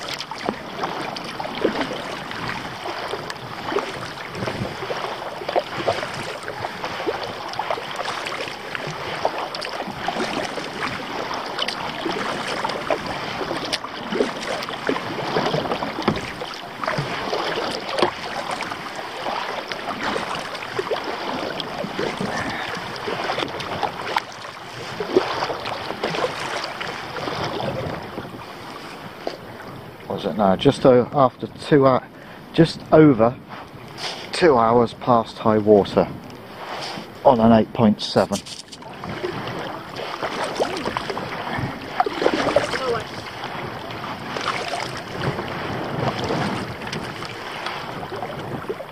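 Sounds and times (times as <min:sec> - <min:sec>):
paddle splashes: 0:00.0 - 0:48.9
water slapping against hull: 0:00.0 - 0:48.9.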